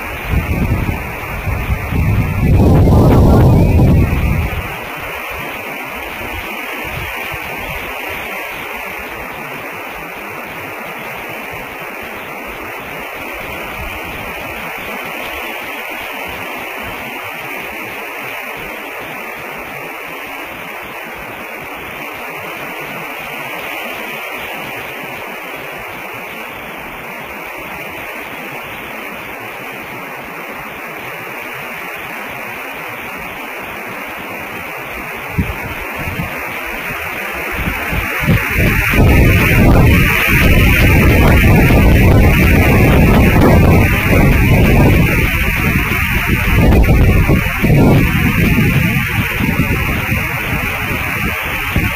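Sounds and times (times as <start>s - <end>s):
electronic static hiss: 0.0s - 51.9s.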